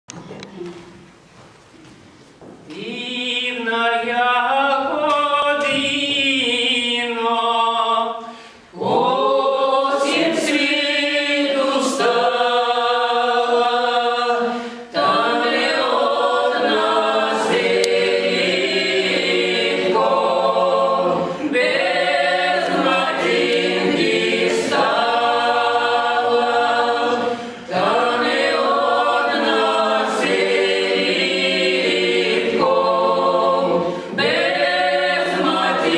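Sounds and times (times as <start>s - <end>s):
mixed choir singing a cappella: 2.8s - 35.9s.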